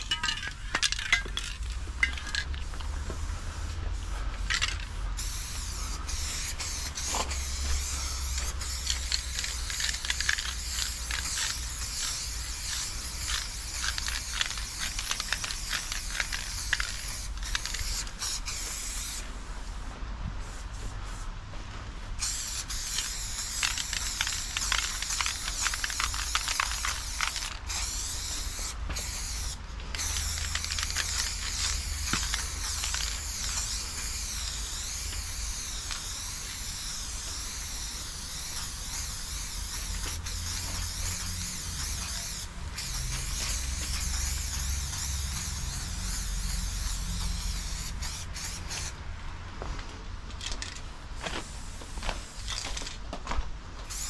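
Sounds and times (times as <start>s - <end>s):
spray paint can hissing: 0.0s - 19.3s, 22.2s - 49.0s, 50.4s - 53.0s.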